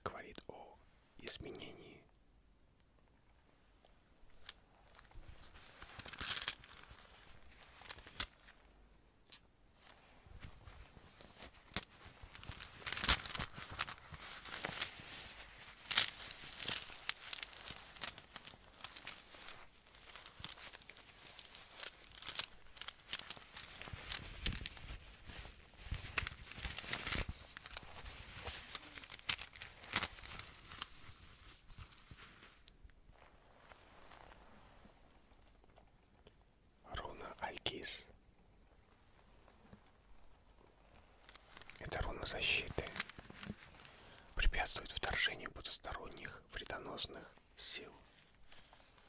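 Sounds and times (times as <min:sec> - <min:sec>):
rustling and crinkling: 0:02.9 - 0:49.0.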